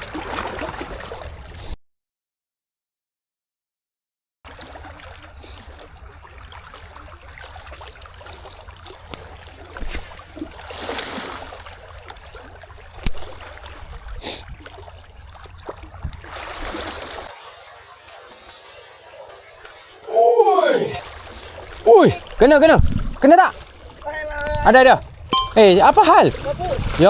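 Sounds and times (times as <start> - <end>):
outdoor water noise: 0.0 - 1.8, 4.4 - 27.0.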